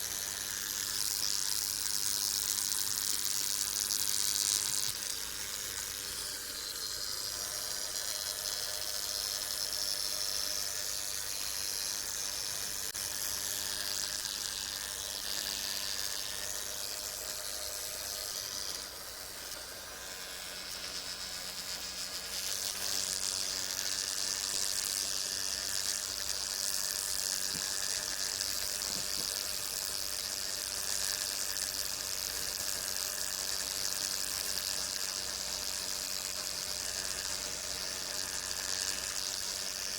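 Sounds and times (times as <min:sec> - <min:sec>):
bug wings buzzing: 0:00.0 - 0:39.9.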